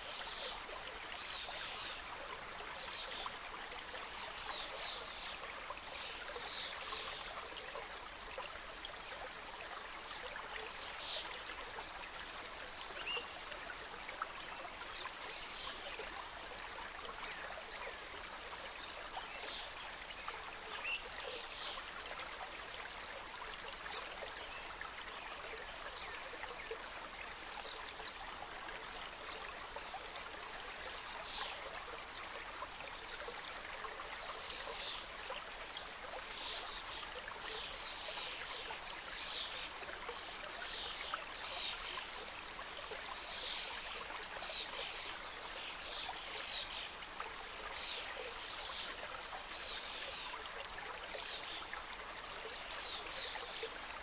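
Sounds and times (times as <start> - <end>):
stream gurgling over rocks: 0.0 - 54.0.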